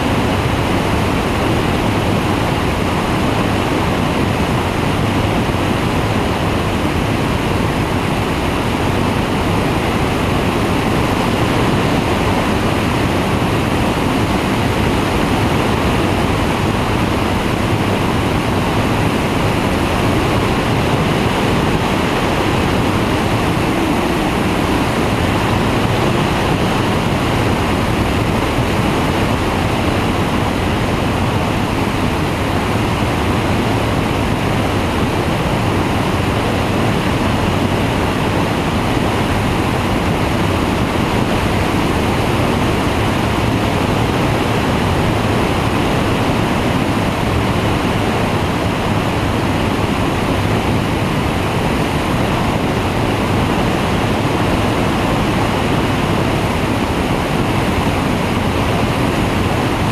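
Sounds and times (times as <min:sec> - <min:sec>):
engine and propeller droning: 0:00.0 - 0:59.9
wind rushing over microphone: 0:00.0 - 0:59.9.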